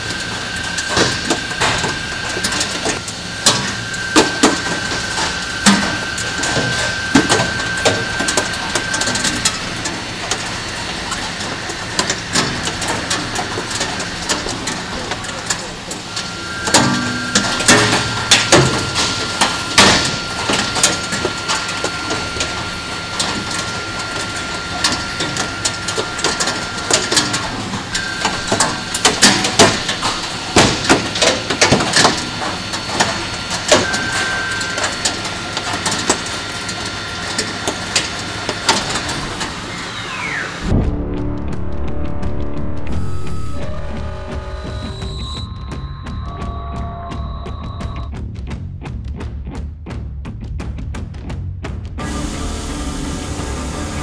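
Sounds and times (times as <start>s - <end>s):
machine high whine: 0.0s - 48.1s, 52.0s - 54.0s.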